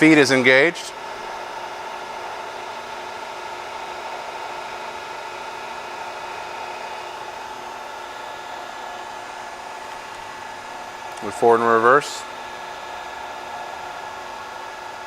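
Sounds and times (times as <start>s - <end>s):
mill motor humming with whine: 0.0s - 15.0s.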